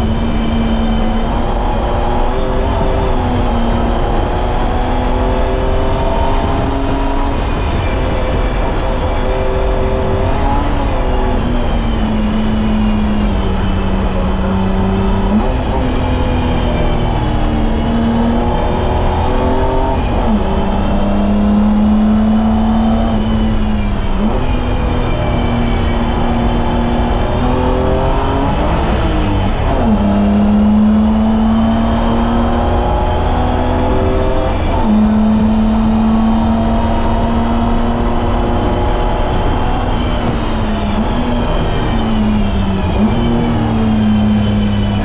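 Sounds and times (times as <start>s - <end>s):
car engine accelerating and shifting: 0.0s - 45.0s.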